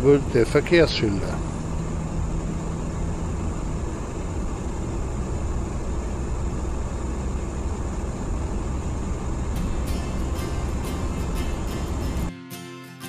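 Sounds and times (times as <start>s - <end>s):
vehicle engine and road rumble: 0.0s - 12.3s.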